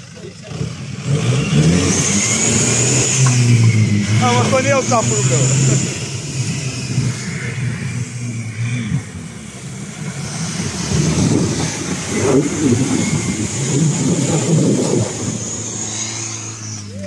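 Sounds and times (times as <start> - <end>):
diesel engine pulling: 0.0 - 17.0.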